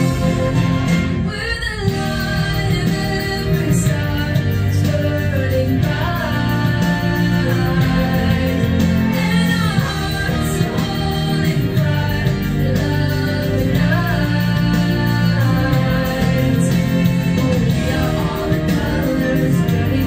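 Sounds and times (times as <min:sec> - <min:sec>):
sung melody: 0:00.0 - 0:20.0
sustained bass notes: 0:00.0 - 0:20.0.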